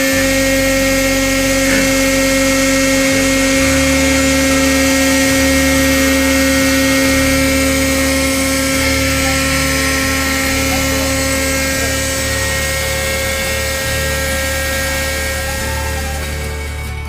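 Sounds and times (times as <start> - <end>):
hydraulic pump whine: 0.0 - 17.0.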